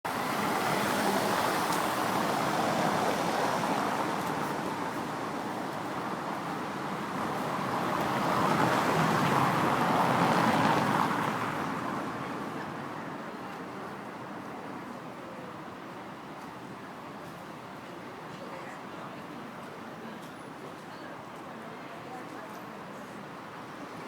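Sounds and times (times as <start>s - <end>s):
city traffic hiss and rumble: 0.1s - 24.0s.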